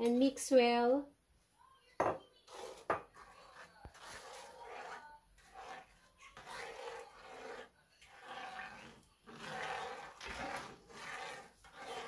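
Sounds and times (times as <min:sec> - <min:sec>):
spoon stirring in a pan: 0:02.0 - 0:12.0.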